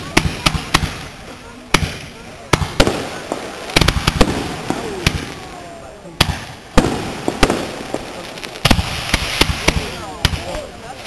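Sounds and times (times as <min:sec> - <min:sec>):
fireworks bursting bangs: 0:00.0 - 0:11.0.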